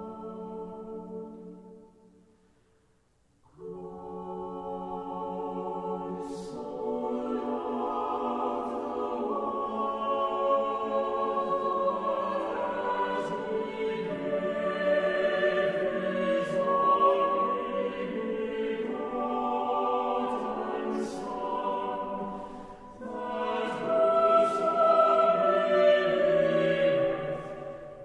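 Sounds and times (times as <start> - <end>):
choir singing held notes: 3.6 - 28.0.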